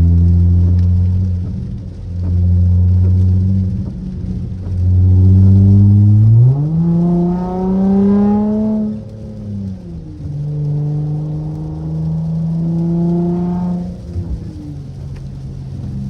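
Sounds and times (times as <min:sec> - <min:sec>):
car exhaust drone accelerating: 0:00.0 - 0:16.0.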